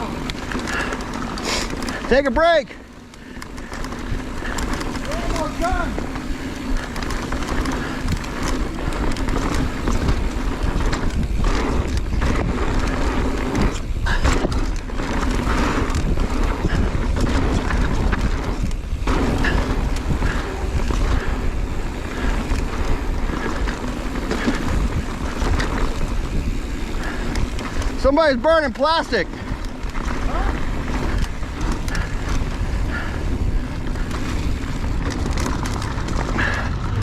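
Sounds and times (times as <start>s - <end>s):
bike knocking and rattling: 0.0s - 37.0s
tyres rumbling over rock: 0.0s - 37.0s
wind buffeting microphone: 0.0s - 37.0s.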